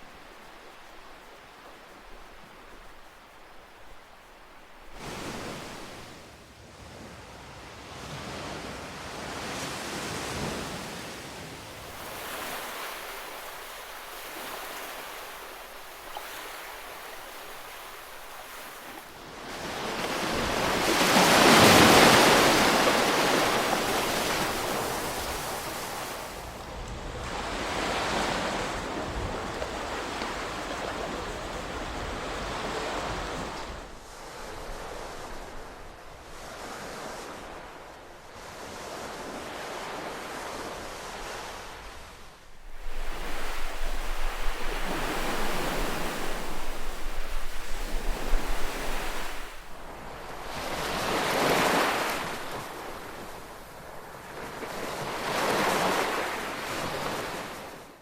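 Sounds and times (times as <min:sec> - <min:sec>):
ocean waves breaking: 0:09.5 - 0:26.6, 0:27.3 - 0:57.8.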